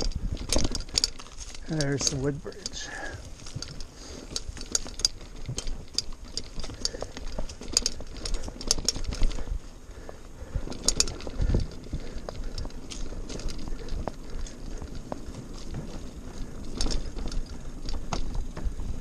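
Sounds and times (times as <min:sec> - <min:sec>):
bike clicks and rattles: 0:00.0 - 0:19.0
bike rolling over dirt trail: 0:00.0 - 0:19.0.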